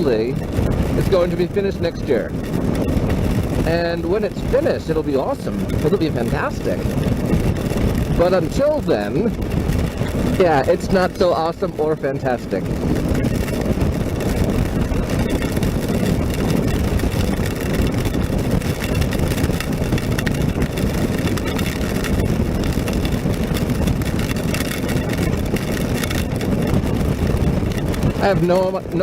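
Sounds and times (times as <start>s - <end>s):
motorcycle engine running: 0.0s - 29.0s
wet road noise: 0.0s - 29.0s
wind rush: 0.0s - 29.0s.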